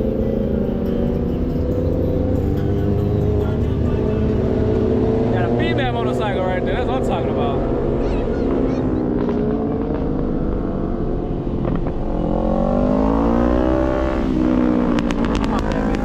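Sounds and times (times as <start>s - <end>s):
engine revving: 0.0s - 16.0s
vehicle engines running: 0.0s - 16.0s.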